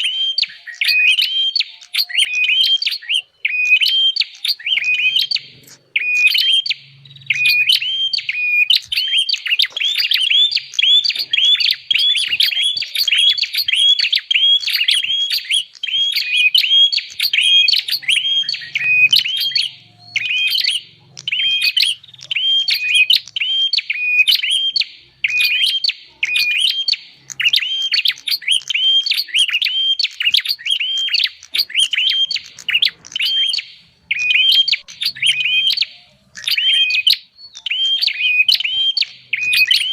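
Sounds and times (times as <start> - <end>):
birds chirping sharply: 0.0 - 39.9.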